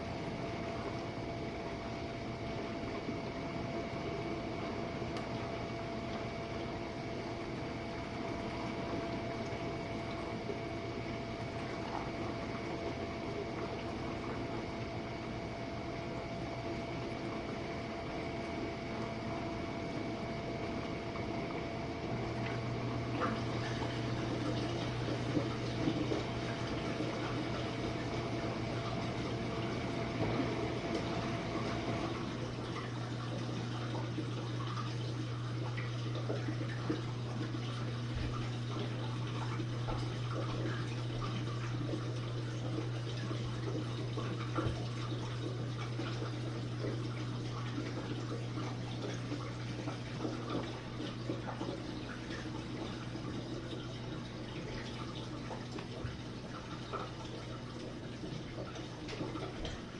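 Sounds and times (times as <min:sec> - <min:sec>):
pump motor hum: 0:00.0 - 0:59.9.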